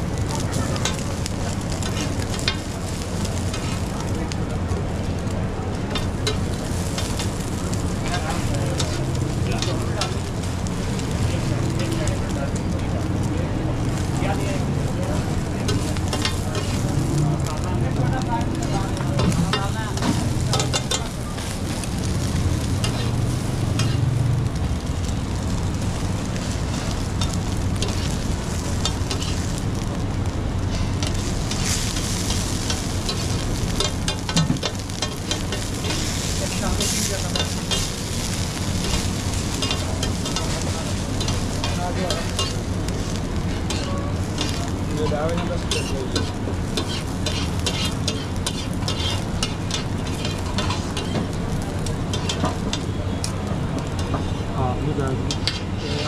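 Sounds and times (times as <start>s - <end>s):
food sizzling on griddle: 0.0s - 56.0s.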